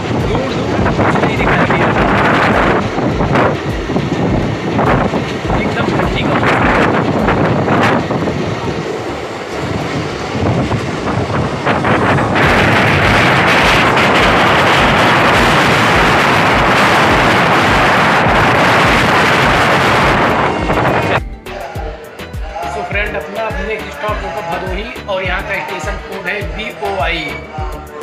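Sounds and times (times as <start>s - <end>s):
wind rushing over microphone: 0.0s - 22.6s
passenger train rumble: 0.0s - 28.0s.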